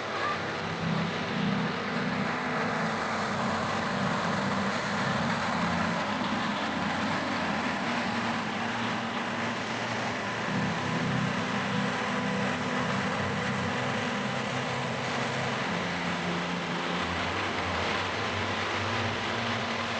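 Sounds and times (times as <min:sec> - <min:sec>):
road and wind noise: 0:00.0 - 0:19.9
vehicle engine hum: 0:00.0 - 0:19.9.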